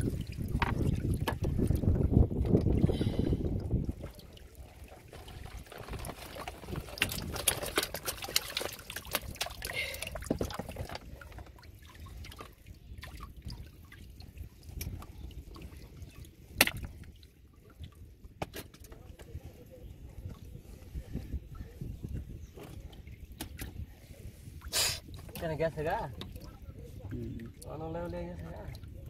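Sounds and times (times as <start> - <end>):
water trickling and dripping: 0.0 - 29.0.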